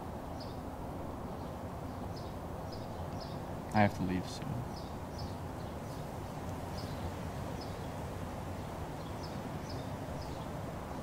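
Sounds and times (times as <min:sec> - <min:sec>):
small birds chirping: 0:00.2 - 0:00.7, 0:01.3 - 0:11.0.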